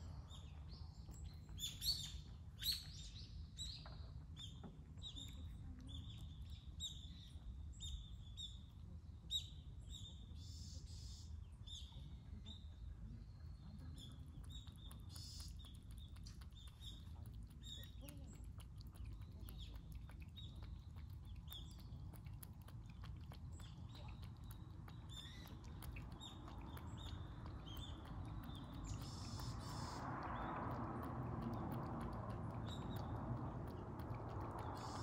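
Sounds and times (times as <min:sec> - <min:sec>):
low background rumble: 0:00.0 - 0:35.0
small birds chirping: 0:00.0 - 0:35.0.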